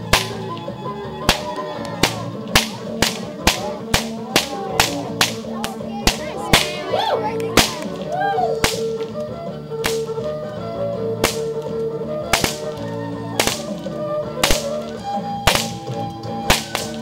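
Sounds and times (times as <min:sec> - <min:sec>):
bullwhip cracking: 0:00.0 - 0:06.9, 0:07.5 - 0:10.4, 0:11.2 - 0:17.0
background music: 0:00.0 - 0:17.0.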